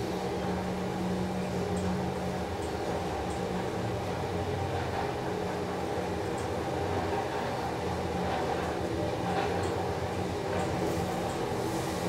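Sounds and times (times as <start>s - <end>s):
elevator mechanical hum: 0.0s - 12.0s.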